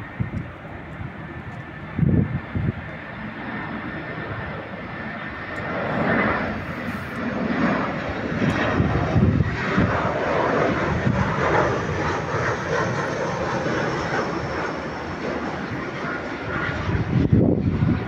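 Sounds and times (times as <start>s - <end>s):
jet airliner engine noise: 0.0s - 18.0s.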